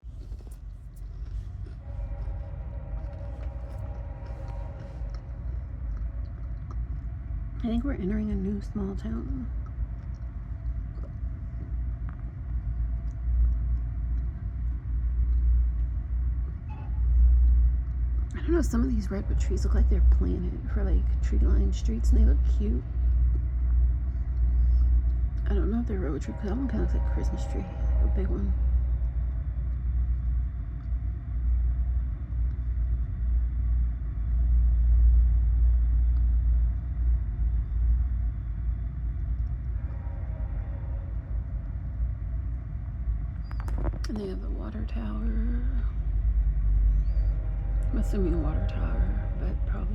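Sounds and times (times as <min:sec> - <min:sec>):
train rumbling: 0:00.0 - 0:49.9.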